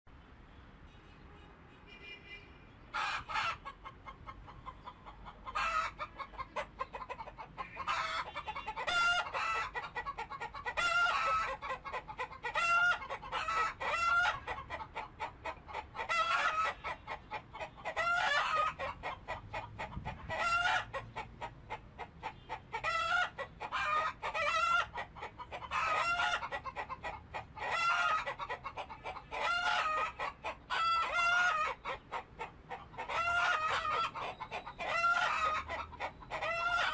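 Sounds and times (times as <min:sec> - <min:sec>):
chickens clucking: 0:02.9 - 0:36.9.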